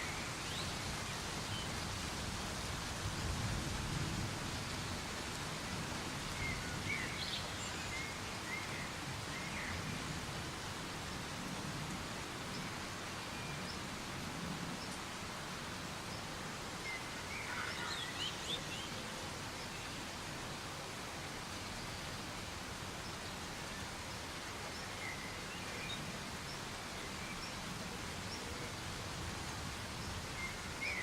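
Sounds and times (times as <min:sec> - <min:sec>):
soft steady rain: 0:00.0 - 0:31.0.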